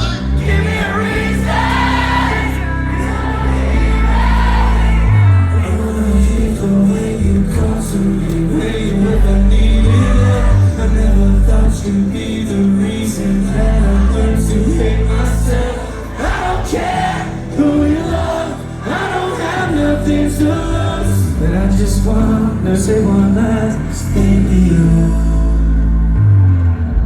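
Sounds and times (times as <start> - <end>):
heavy bass: 0.0 - 27.0
person singing: 0.0 - 27.0.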